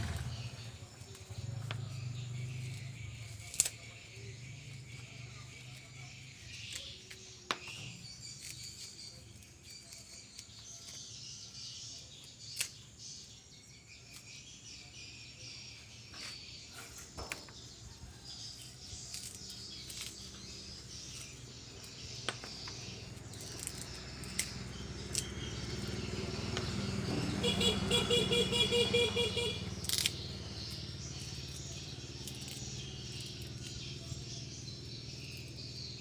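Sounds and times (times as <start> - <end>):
birds chirping: 0.0 - 36.0
insects chirping: 0.0 - 36.0.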